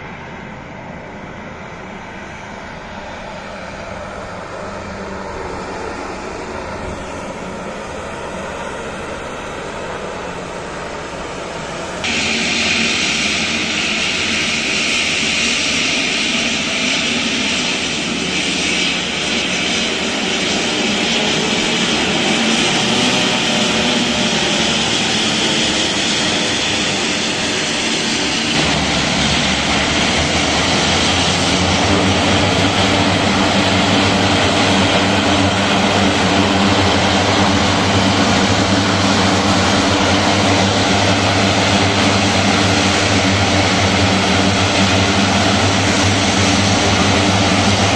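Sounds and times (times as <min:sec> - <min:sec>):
low propeller hum: 0:00.0 - 0:47.9
turboprop engines whining: 0:00.0 - 0:47.9.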